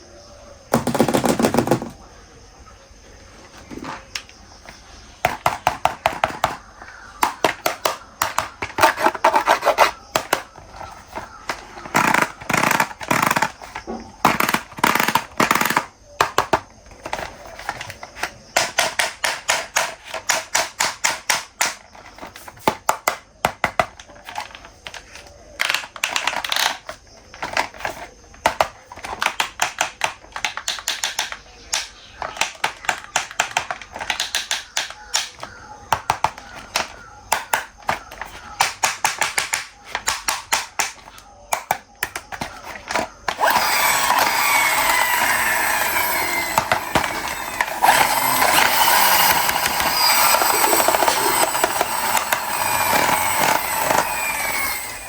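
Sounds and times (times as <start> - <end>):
plastic toys clicking and tapping: 0.7 - 2.0, 3.6 - 55.0.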